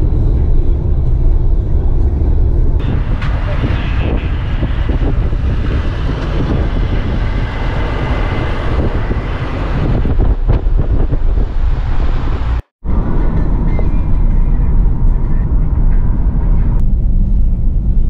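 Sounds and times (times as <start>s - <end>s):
van road noise: 0.0s - 18.0s
wind rushing over microphone: 0.0s - 18.0s.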